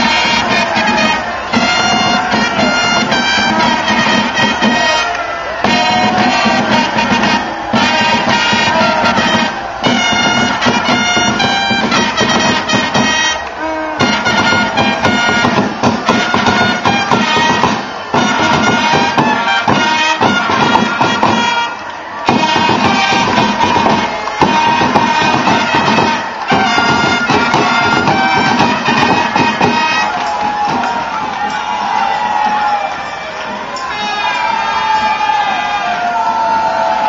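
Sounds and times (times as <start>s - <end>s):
snare drum rattling: 0.0s - 32.6s.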